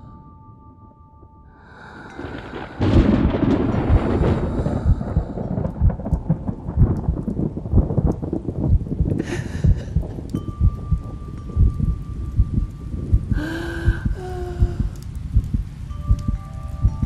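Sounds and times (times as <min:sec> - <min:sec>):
rain: 0:00.0 - 0:17.0
thunder rumbling: 0:01.2 - 0:17.0.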